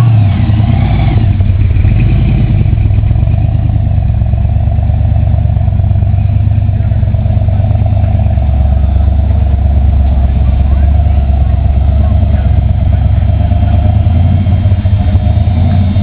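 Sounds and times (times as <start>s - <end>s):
hot rod engine at low revs: 0.0s - 16.0s.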